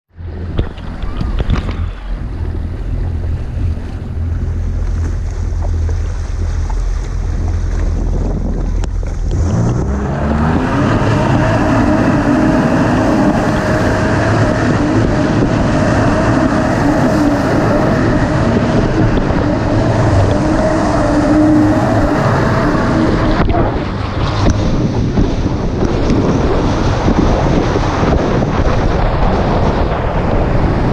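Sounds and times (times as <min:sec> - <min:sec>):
wind: 0:00.1 - 0:30.9
jet ski engine revving: 0:00.2 - 0:30.9
rushing water: 0:00.2 - 0:30.9.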